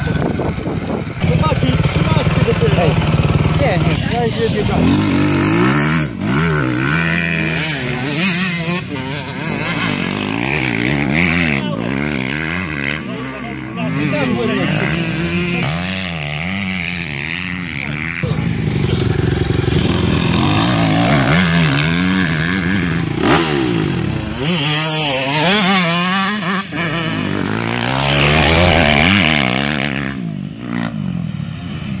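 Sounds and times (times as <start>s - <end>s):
dirt bikes revving: 0.0s - 32.0s.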